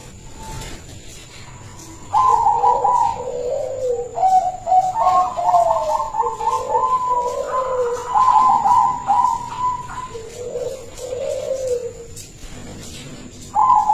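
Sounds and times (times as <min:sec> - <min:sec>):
dove cooing: 0:00.0 - 0:13.9.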